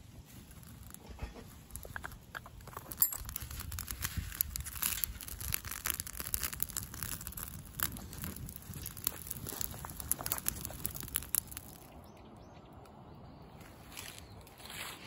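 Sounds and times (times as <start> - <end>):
dry leaves crackling in fire: 0.0 - 12.2, 13.4 - 15.0.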